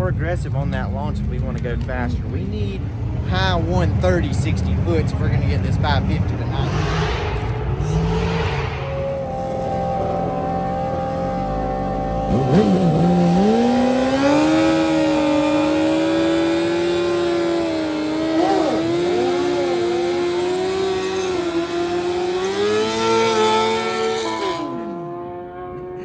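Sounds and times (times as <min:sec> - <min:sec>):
motorcycle engine revving high: 0:03.3 - 0:26.0.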